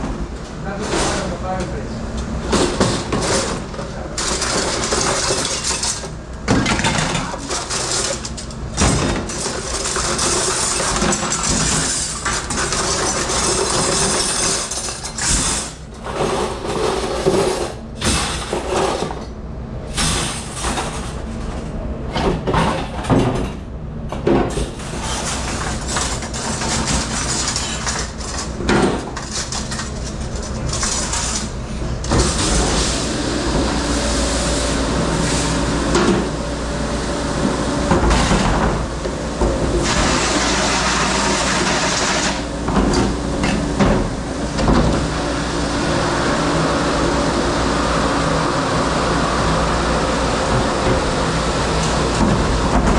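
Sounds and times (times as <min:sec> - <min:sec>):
dishwashing machinery hum: 0:00.0 - 0:52.9.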